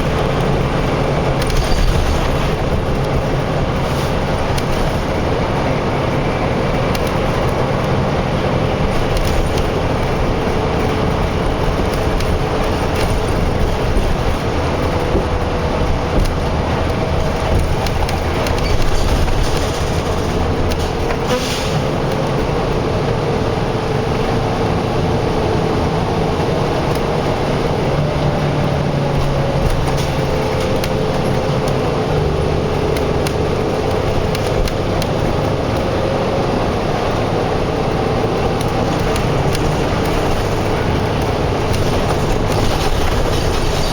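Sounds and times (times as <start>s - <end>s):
construction machinery rumble: 0.0s - 43.9s
road traffic: 0.0s - 43.9s.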